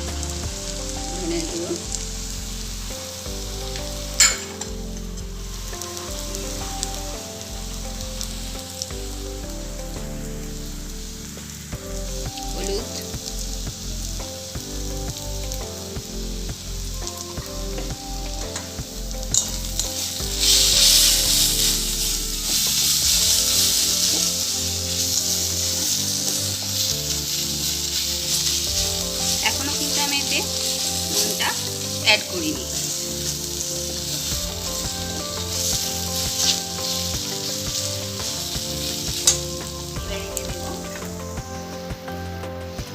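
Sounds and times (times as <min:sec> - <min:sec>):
onion and spices sizzling in oil: 0:00.0 - 0:42.9.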